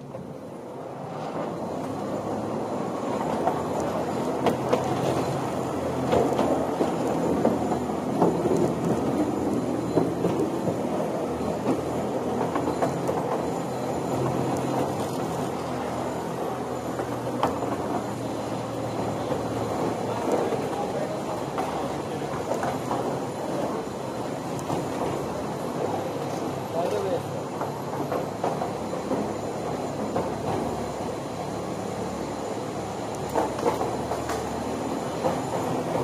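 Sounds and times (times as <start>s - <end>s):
electric train low hum: 0.0s - 36.0s
wheels rolling rattle: 1.1s - 36.0s.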